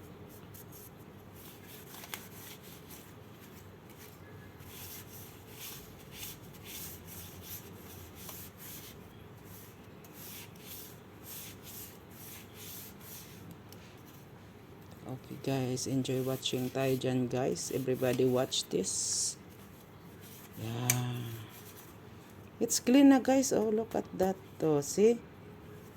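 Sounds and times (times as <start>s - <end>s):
faint rubbing strokes wiping: 0.3s - 14.6s, 15.5s - 22.0s.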